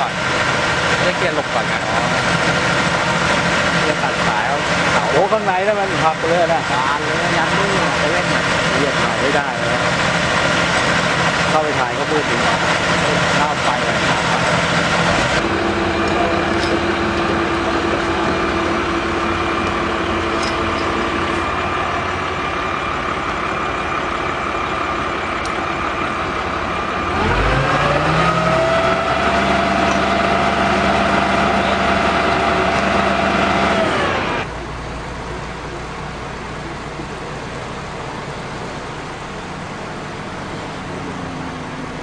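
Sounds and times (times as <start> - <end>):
heavy vehicle engine idling and revving: 0.0 - 42.0.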